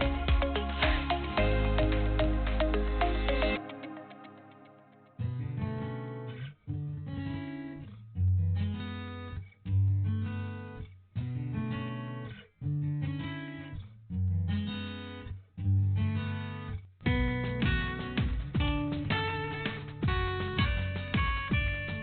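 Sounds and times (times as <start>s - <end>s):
guitar chords strummed: 0.0s - 13.7s, 15.8s - 22.0s.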